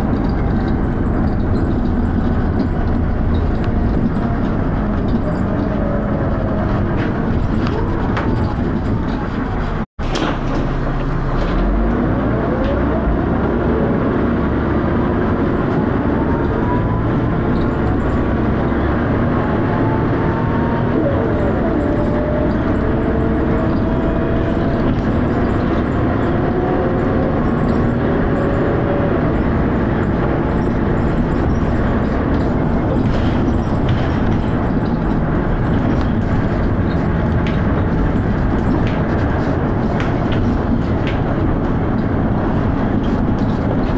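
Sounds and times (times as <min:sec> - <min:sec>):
bus diesel engine accelerating: 0:00.0 - 0:43.9.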